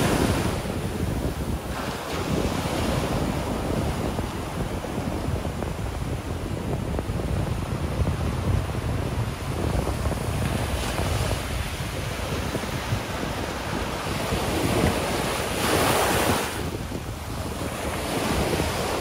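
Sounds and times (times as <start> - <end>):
waves breaking on sand: 0.0 - 19.0
wind rumble on microphone: 0.0 - 19.0.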